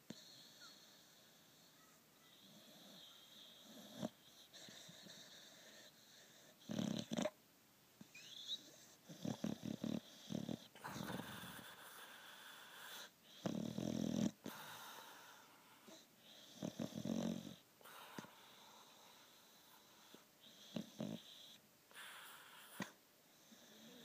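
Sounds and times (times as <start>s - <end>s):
dog snoring: 0.1s - 1.7s, 2.3s - 7.4s, 8.2s - 24.0s.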